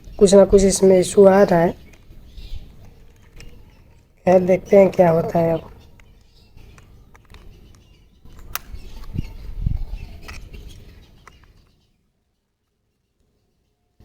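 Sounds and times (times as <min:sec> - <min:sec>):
handling noise clicks and bumps: 0:00.0 - 0:11.9.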